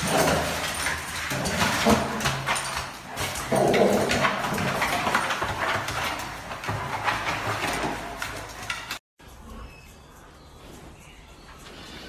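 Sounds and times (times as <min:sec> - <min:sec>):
dog claws clicking on tiles: 0:00.0 - 0:12.0.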